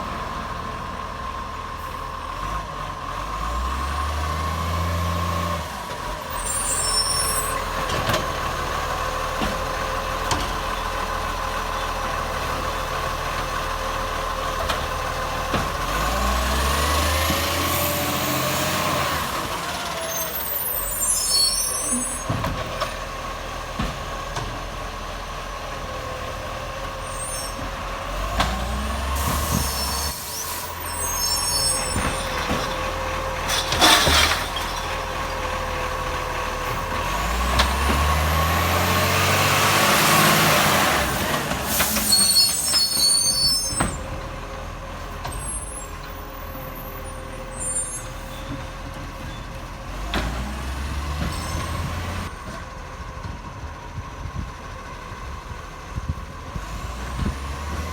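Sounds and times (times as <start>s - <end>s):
garbage truck engine running: 0.0s - 57.9s.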